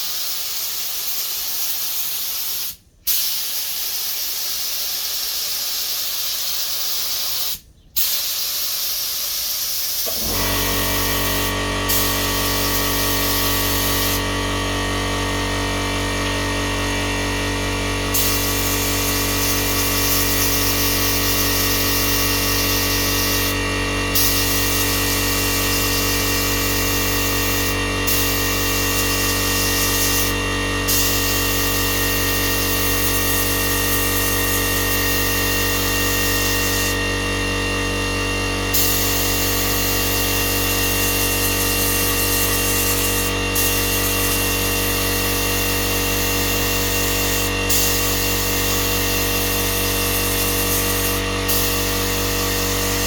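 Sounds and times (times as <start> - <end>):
heat gun running: 0.0 - 53.0.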